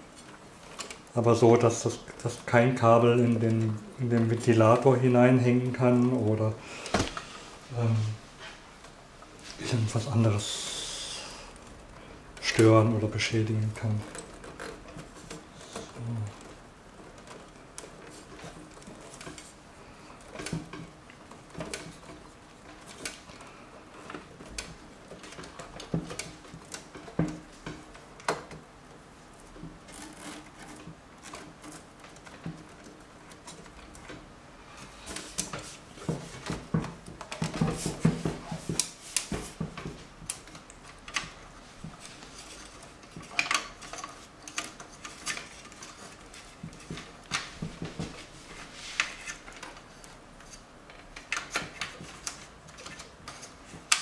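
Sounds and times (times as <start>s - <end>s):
cable connectors clicking and rustling: 0.0s - 10.6s, 11.5s - 54.0s.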